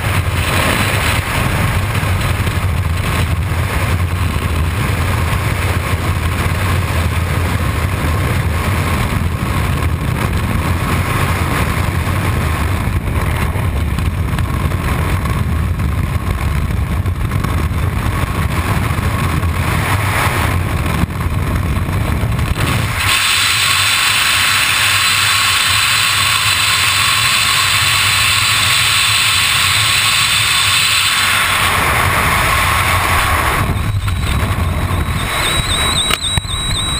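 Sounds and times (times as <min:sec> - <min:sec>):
freefall wind buffeting microphone: 0:00.0 - 0:36.9.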